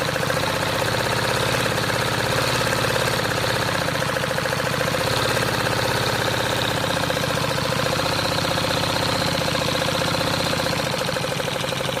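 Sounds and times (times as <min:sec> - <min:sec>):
model engine clattering: 0:00.0 - 0:12.0.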